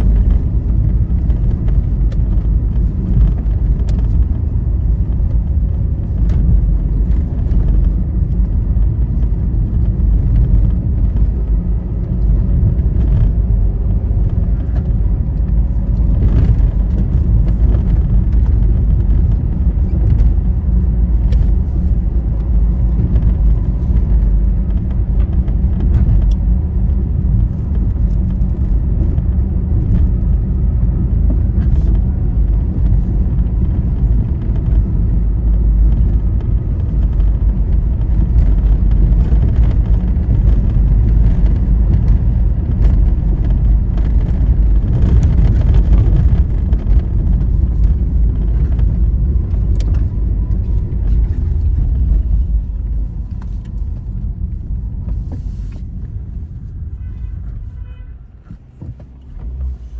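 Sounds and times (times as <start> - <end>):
vehicle road rumble: 0.0 - 59.9.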